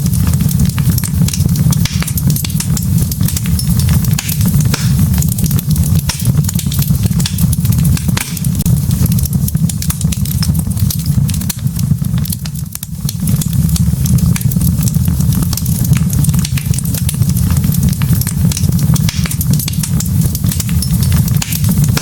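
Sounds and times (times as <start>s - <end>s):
burning wood crackling: 0.0s - 22.0s
low fire rumble: 0.0s - 22.0s.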